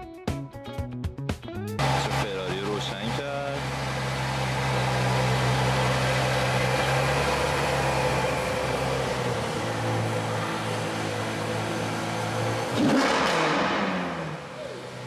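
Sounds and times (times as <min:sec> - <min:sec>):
car engine idling: 0:01.8 - 0:15.0.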